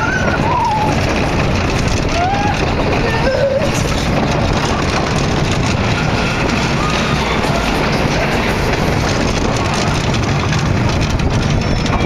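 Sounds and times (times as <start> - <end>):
roller coaster rumbling on track: 0.0 - 12.0
wind rushing over microphone: 0.0 - 12.0.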